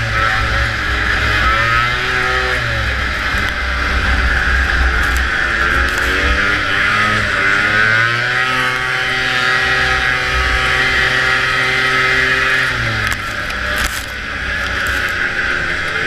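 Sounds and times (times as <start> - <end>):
snowmobile two-stroke engine revving: 0.0 - 16.0.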